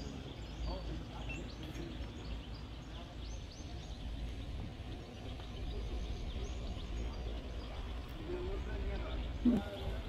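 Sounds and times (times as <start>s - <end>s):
small birds chirping: 0.0s - 10.0s
steady low rumble: 0.0s - 10.0s.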